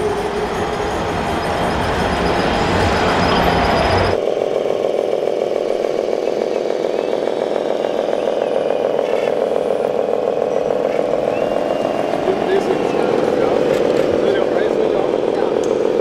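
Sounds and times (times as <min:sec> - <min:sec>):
rumbling mechanical noise: 0:00.0 - 0:16.0
steady drone: 0:00.0 - 0:16.0.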